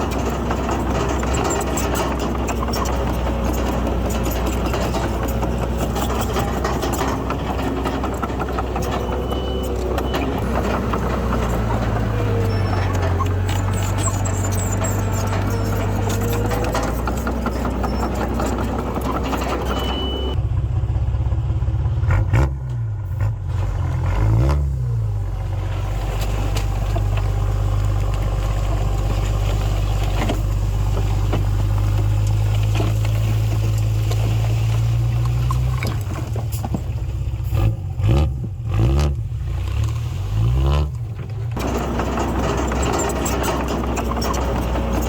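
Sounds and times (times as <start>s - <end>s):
bulldozer diesel engine revving: 0.0s - 45.0s.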